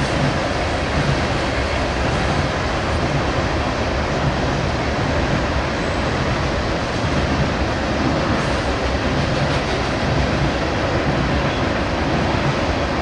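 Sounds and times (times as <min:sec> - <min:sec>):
low rumble of train: 0:00.0 - 0:13.0
train wheels on rails: 0:00.0 - 0:13.0.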